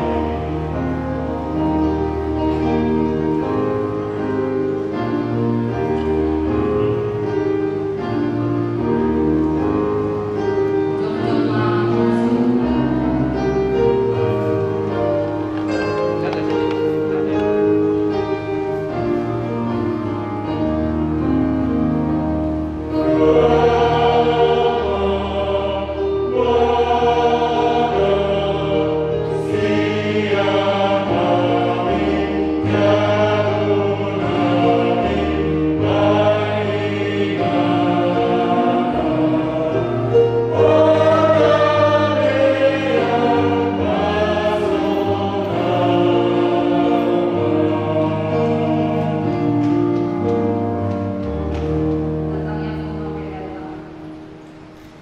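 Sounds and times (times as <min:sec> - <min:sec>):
congregation singing a hymn: 0:00.0 - 0:55.0
keyboard accompaniment: 0:00.0 - 0:55.0.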